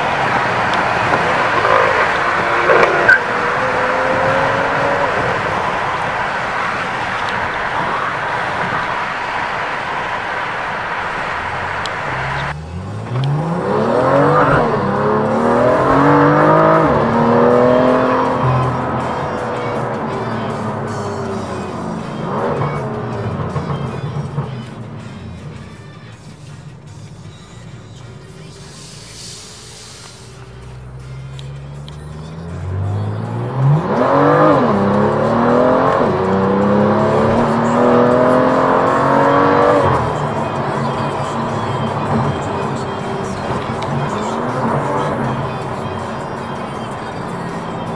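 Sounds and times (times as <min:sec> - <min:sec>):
car engine accelerating hard: 0:00.0 - 0:47.9
road noise rushing: 0:00.0 - 0:47.9.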